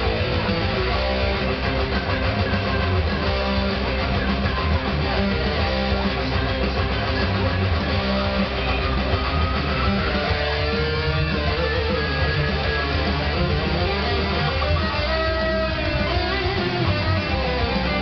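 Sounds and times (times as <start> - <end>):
electric guitar playing metal: 0.0 - 18.0.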